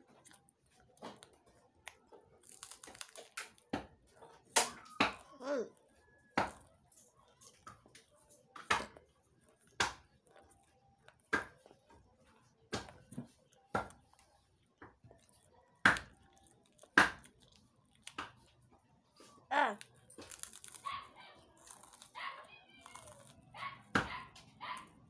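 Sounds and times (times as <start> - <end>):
crackers crunching: 0.0 - 25.0
quiet chewing: 0.0 - 25.0.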